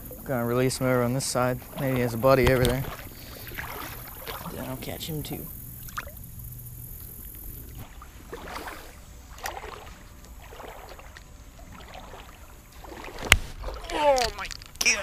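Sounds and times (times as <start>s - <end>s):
soft splashes: 0.0s - 14.9s
creek water lapping: 0.0s - 15.0s.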